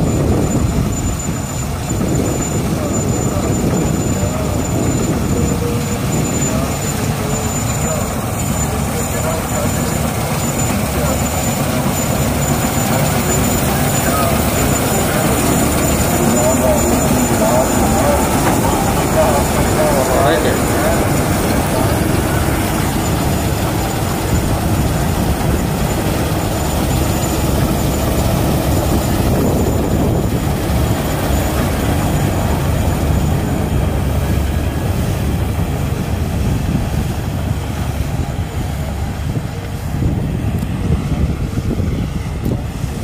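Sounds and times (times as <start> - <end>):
combine harvester drone: 0.0 - 43.0.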